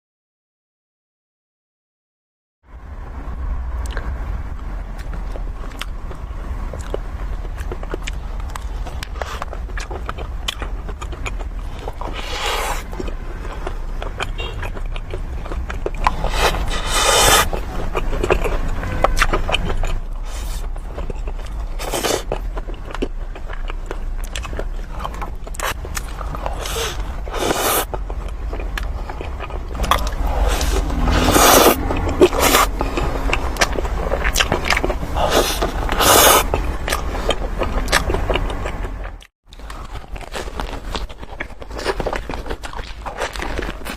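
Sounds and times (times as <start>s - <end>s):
chewing sweets: 3.8s - 43.9s
crunchy bites: 5.0s - 43.9s.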